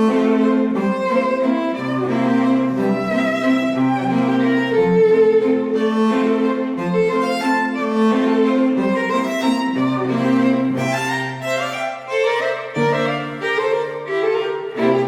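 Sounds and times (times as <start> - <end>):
cello: 0.0 - 15.0
violin: 0.0 - 15.0.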